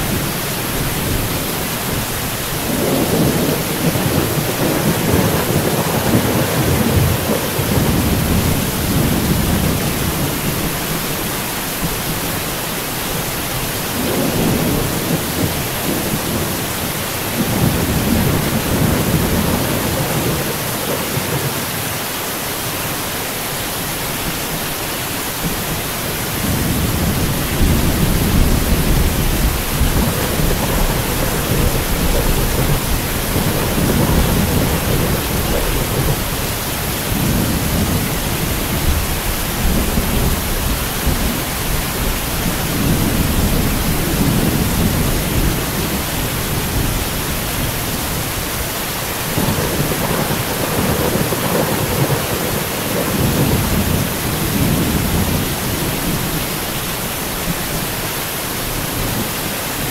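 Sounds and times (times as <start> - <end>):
rolling thunder: 0.0 - 12.4, 13.2 - 21.9, 25.4 - 56.6
rain hissing: 0.0 - 59.9.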